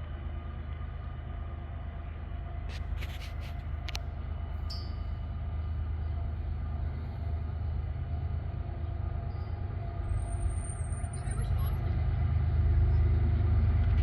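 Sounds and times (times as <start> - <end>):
diesel locomotives rumbling: 0.0 - 14.0.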